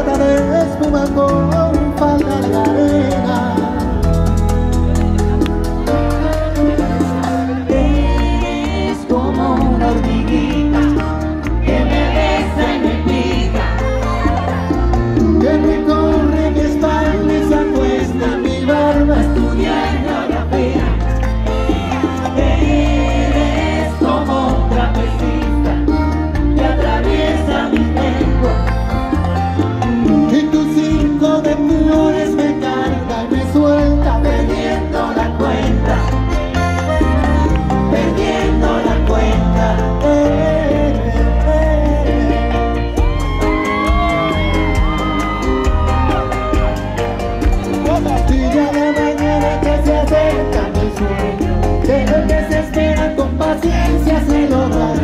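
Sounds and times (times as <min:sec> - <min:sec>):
live bachata band with singing: 0:00.0 - 0:55.0.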